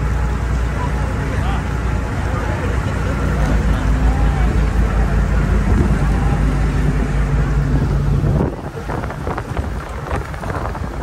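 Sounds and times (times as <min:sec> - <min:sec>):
boat engine humming: 0:00.0 - 0:11.0
wind buffeting microphone: 0:02.0 - 0:11.0.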